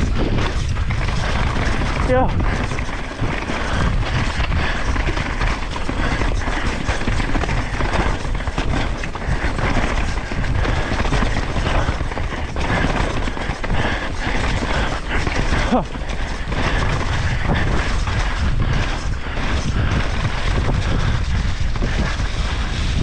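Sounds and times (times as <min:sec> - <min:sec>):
bike knocks and rattles: 0:00.0 - 0:23.0
bike tyre noise: 0:00.0 - 0:23.0
wind rumble: 0:00.0 - 0:23.0.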